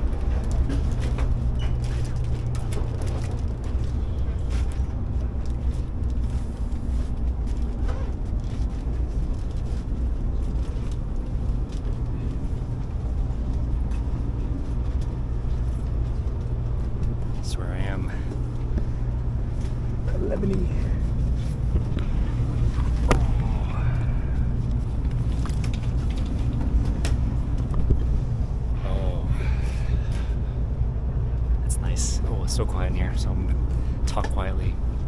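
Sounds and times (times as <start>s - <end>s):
low rumble of ambient noise: 0.0s - 35.0s.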